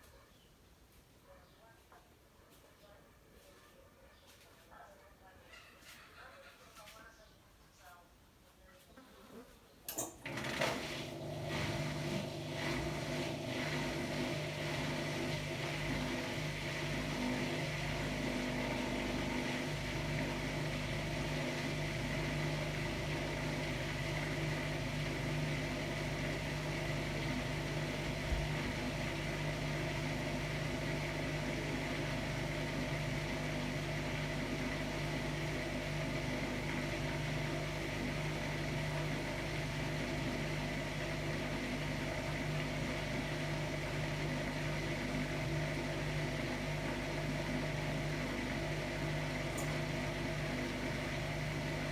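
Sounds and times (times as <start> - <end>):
washer-dryer humming: 9.9 - 51.9.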